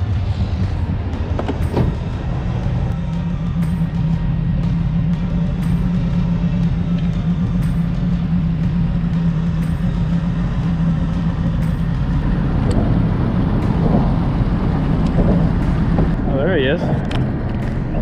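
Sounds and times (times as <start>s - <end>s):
boat motor droning: 0.0s - 18.0s.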